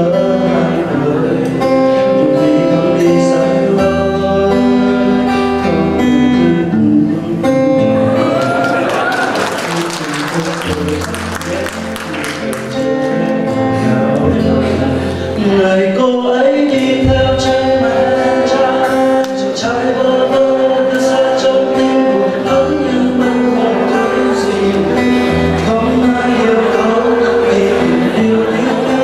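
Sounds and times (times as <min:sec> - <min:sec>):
acoustic guitar: 0:00.0 - 0:29.0
man singing: 0:00.0 - 0:29.0.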